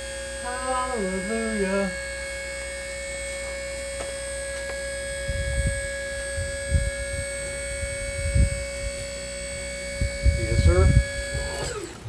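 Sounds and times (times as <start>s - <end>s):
hydraulic pump whining: 0.0s - 12.0s.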